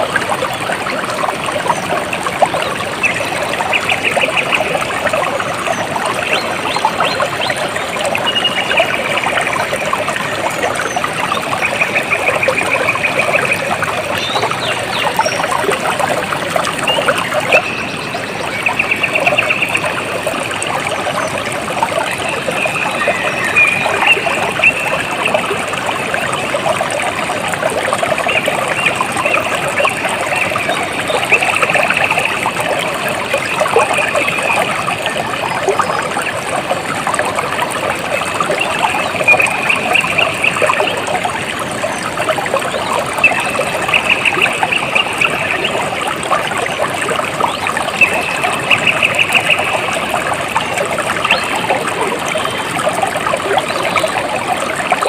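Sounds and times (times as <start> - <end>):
water trickling over stones: 0.0 - 55.0.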